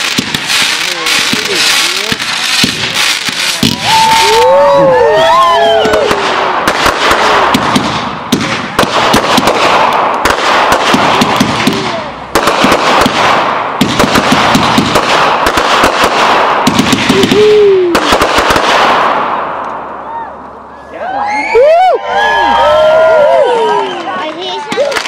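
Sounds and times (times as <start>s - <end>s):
fireworks crackling: 0.0s - 20.2s, 23.7s - 25.0s.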